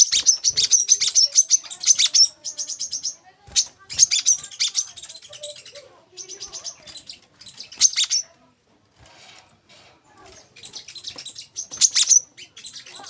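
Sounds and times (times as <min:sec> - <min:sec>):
sunbird singing: 0:00.0 - 0:08.3, 0:10.5 - 0:13.0.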